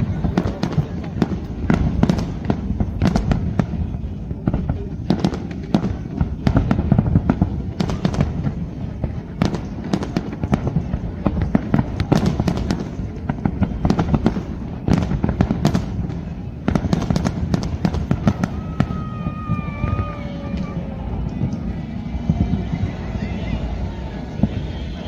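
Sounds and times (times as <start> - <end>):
continuous low rumble: 0.0 - 25.0
fireworks bangs and crackles: 0.0 - 25.0.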